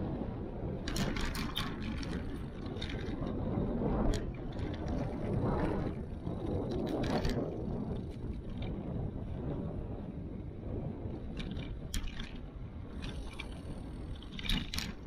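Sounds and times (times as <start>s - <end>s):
wind buffeting microphone: 0.0s - 15.0s
bicycle clicks and rattles: 0.6s - 15.0s.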